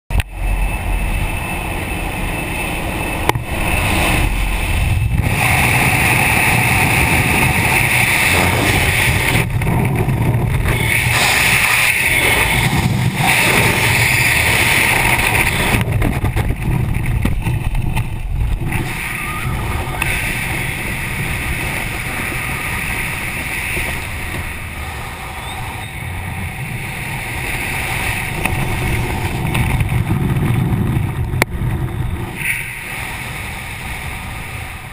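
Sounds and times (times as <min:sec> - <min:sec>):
aircraft noise: 0:00.1 - 0:34.9
freefall wind rushing: 0:00.1 - 0:34.9.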